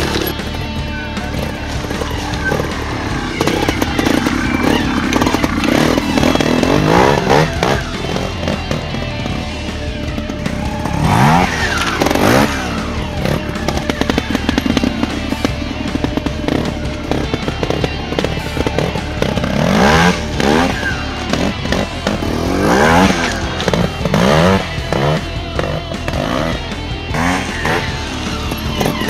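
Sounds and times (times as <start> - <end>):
motorcycle engine revving in bursts: 0.0 - 29.0
music playing: 0.0 - 29.0.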